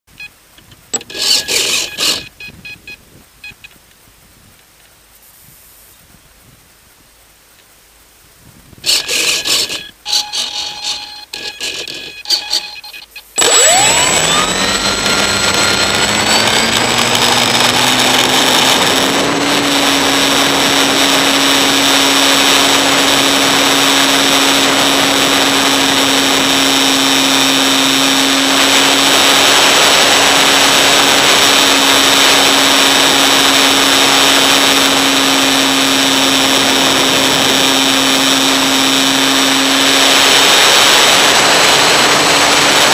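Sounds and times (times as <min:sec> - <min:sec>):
model plane motor whine: 0:00.9 - 0:02.3, 0:08.8 - 0:42.9.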